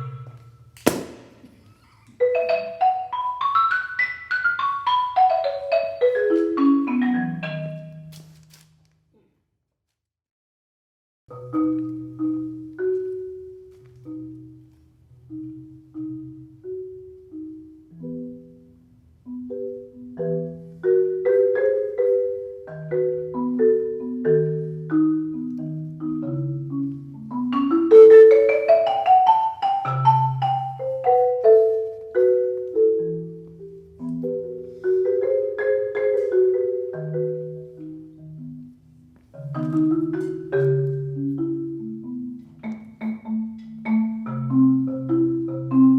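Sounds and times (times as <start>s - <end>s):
marimba melody: 0.0s - 0.8s, 1.5s - 8.2s, 11.3s - 45.9s.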